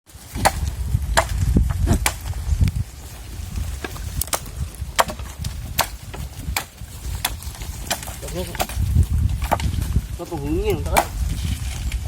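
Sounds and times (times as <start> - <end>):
twigs snapping: 0.1 - 12.0.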